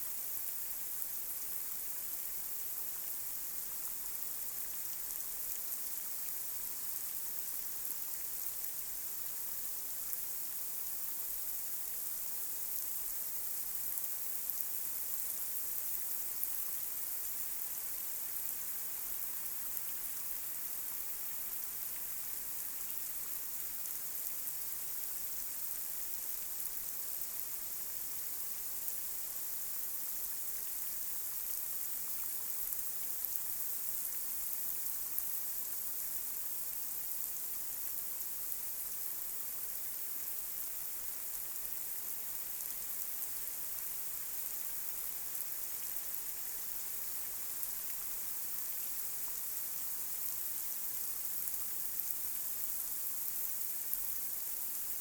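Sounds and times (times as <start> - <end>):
light rain on a street: 0.0 - 55.0.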